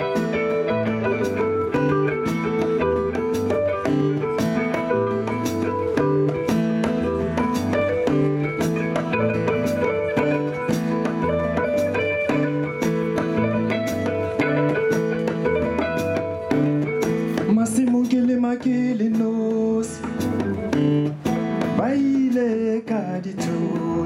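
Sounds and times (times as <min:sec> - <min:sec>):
drum kit beat: 0:00.0 - 0:24.0
guitar: 0:00.0 - 0:24.0.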